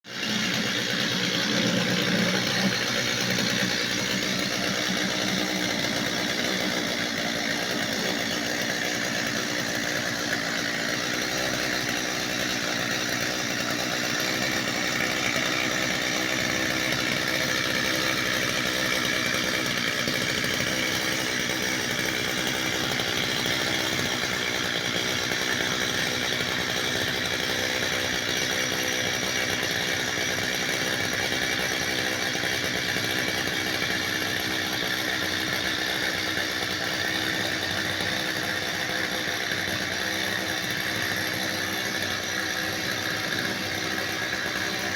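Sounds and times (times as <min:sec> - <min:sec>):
chainsaw running: 0:00.0 - 0:44.9.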